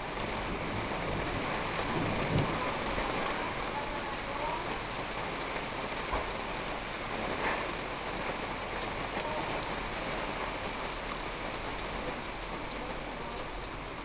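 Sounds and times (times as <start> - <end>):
sharp raindrop hits: 0.0 - 14.0
steady rain falling: 0.0 - 14.0.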